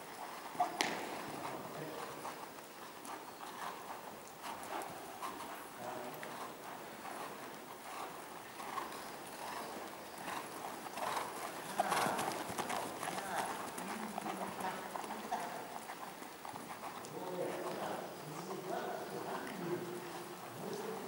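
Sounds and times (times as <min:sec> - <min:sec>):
horse hooves trotting on sand: 0:00.0 - 0:21.0.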